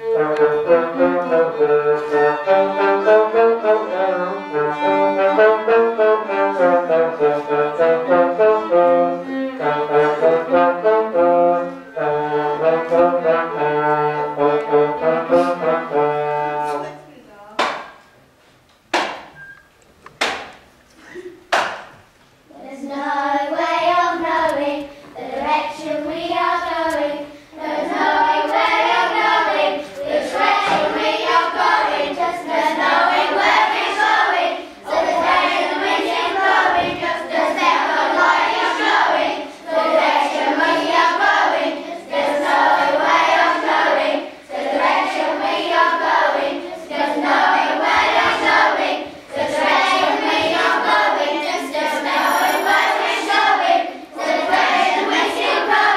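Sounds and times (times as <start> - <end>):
children singing: 0.0 - 17.0, 22.5 - 55.9.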